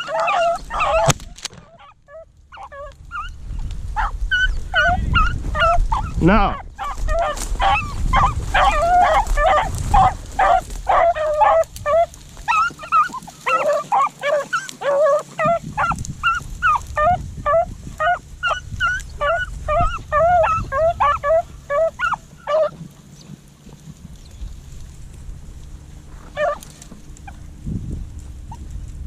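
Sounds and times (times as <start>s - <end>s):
beagles baying: 0.0s - 29.0s.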